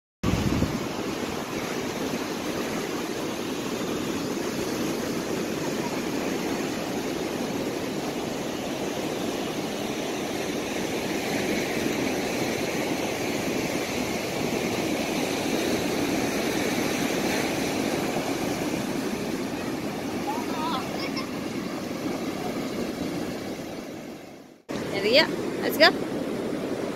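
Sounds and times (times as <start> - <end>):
ocean surf washing onto beach: 0.2 - 26.9.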